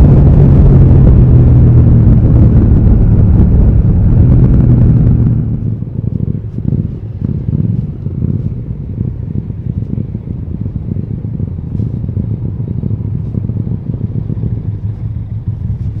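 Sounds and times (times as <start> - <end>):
motorcycle engine idling: 0.7 - 16.0.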